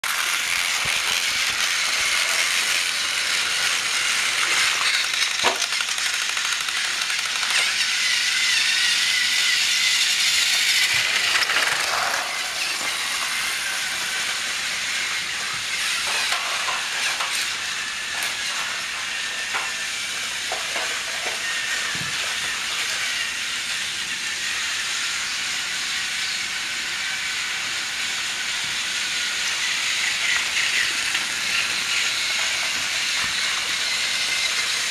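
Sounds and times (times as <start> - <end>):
toy train engines whirring: 0.0 - 34.9.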